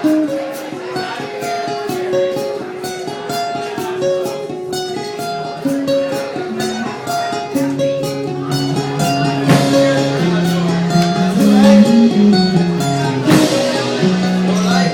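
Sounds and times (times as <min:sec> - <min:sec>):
guitar strummed and plucked: 0:00.0 - 0:14.9.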